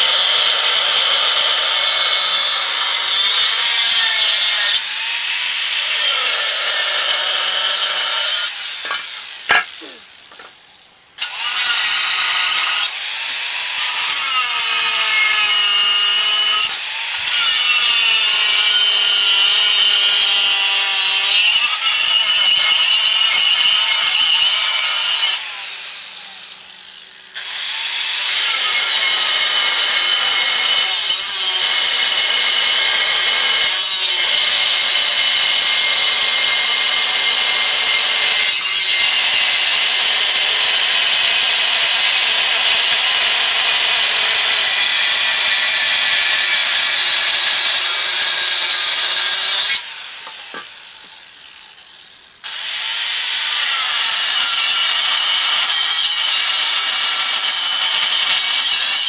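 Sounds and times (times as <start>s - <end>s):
angle grinder cutting metal: 0.0s - 59.0s.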